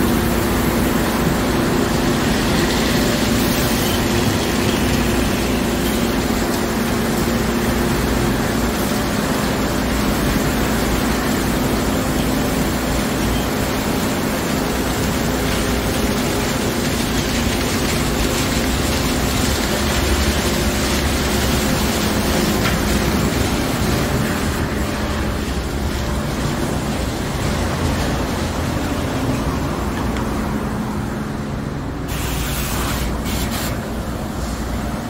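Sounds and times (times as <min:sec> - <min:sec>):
car wash rushing noise: 0:00.0 - 0:35.0.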